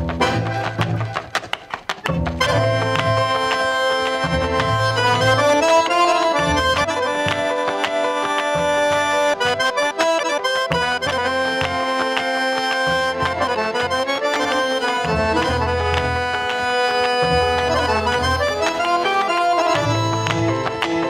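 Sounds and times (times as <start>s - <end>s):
accordion playing a melody: 0.0s - 21.0s.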